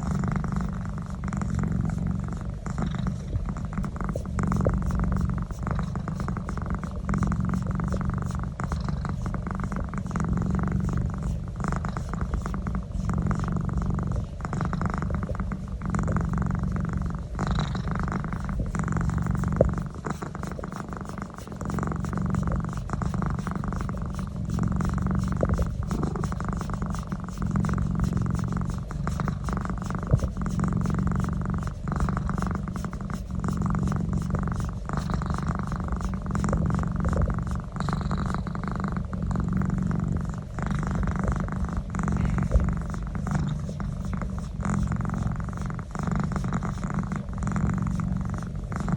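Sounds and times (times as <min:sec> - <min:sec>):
cat purring loudly: 0:00.0 - 0:48.9.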